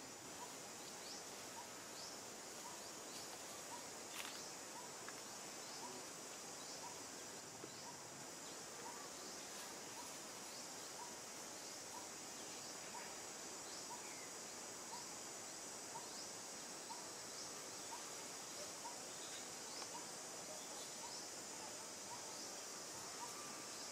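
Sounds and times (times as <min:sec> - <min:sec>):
insect chorus drone: 0:00.0 - 0:23.9.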